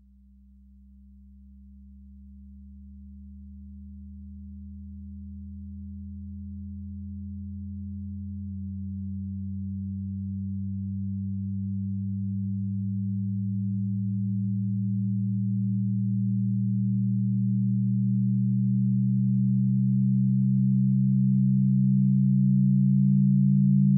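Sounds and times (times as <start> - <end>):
synthesized low sine drone: 0.0 - 23.9.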